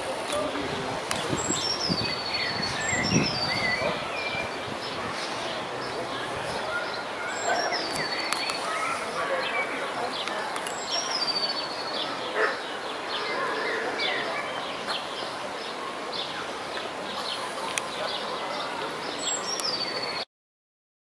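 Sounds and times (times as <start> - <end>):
outdoor background hiss: 0.0 - 20.2
small birds chirping: 0.3 - 20.2.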